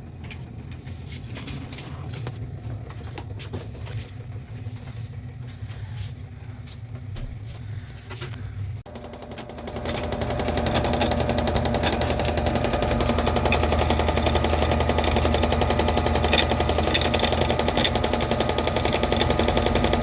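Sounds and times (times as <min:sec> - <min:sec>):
washing machine spin rattle: 0:00.0 - 0:07.5, 0:08.8 - 0:20.0.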